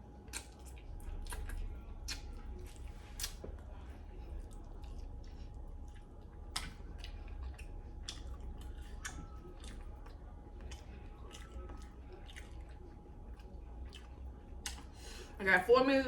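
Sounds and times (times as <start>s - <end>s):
person chewing and smacking: 0.0s - 15.2s
low steady hum: 0.0s - 16.0s.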